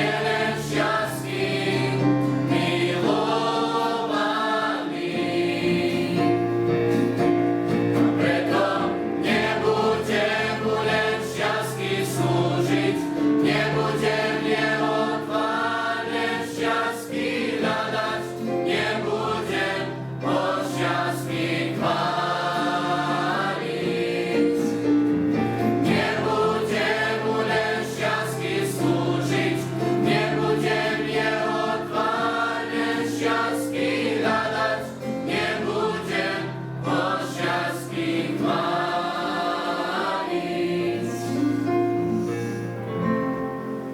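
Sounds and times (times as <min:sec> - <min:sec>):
choir singing in harmony: 0:00.0 - 0:43.9.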